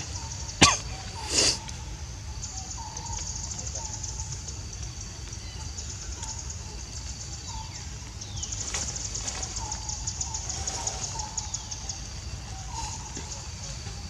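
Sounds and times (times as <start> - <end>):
insects trilling chorus: 0.0 - 14.0.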